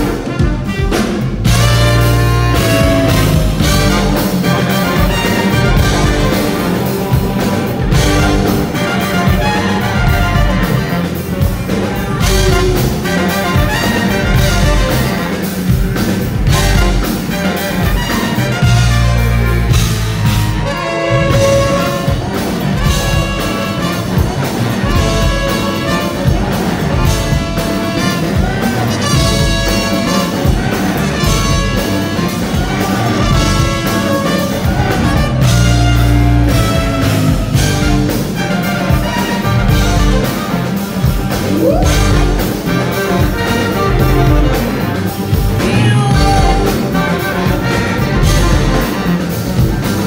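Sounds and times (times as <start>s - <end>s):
drums: 0.0s - 50.0s
electric guitar: 0.0s - 50.0s
trumpet melody: 0.0s - 50.0s.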